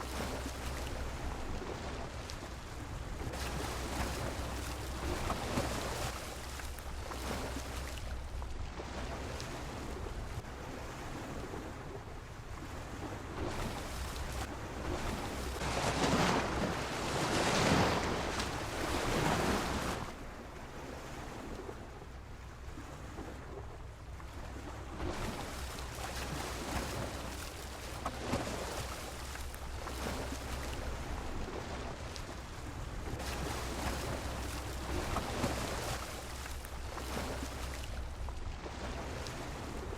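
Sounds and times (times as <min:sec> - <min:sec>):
sea waves breaking against pier: 0:00.0 - 0:39.9.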